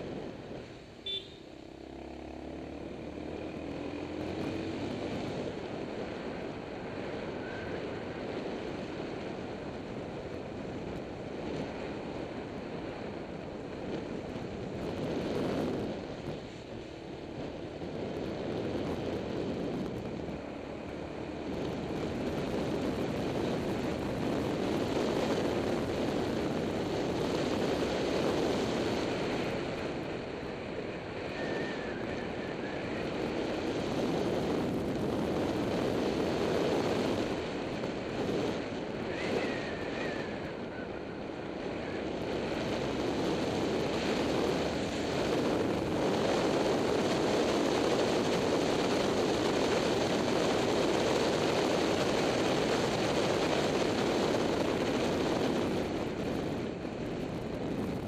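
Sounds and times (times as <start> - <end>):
wind rush over microphone: 0.0 - 1.2, 2.5 - 58.0.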